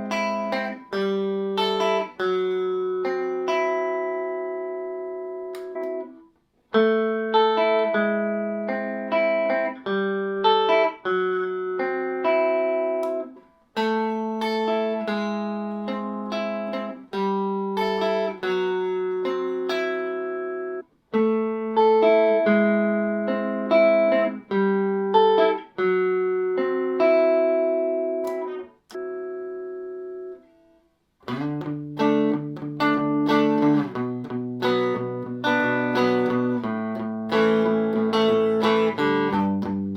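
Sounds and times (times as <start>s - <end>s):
clean electric guitar melody: 0.0s - 39.9s.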